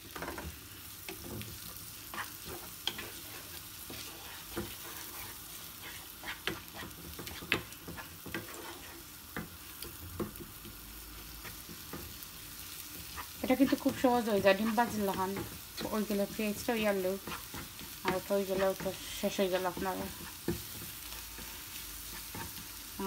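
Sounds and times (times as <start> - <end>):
frying sizzle: 0.0 - 23.0
wooden spatula scraping frying pan: 0.1 - 23.0.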